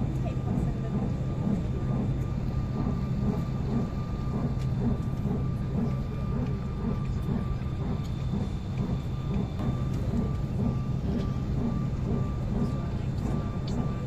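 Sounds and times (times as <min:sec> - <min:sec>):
aircraft cabin drone: 0:00.0 - 0:14.0
faint passenger voices: 0:00.0 - 0:14.0.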